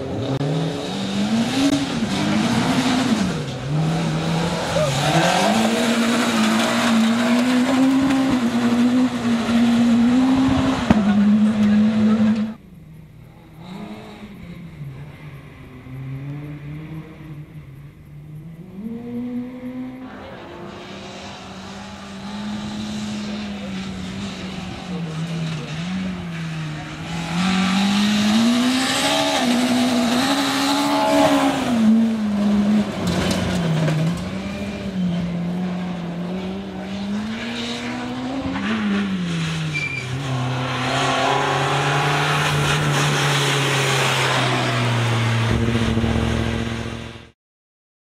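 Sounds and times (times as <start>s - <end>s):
rally car engine revving: 0.0s - 47.4s
tyre and road noise: 0.0s - 47.4s.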